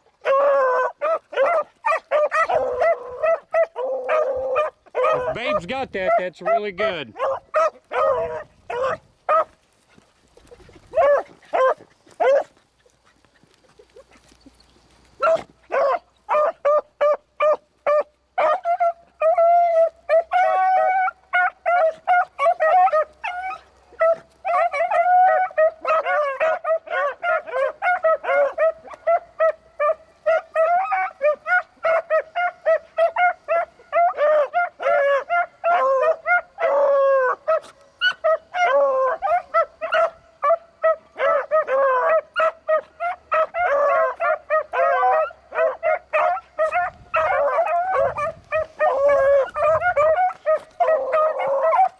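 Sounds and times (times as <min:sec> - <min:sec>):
dogs baying and barking: 0:00.0 - 0:51.9.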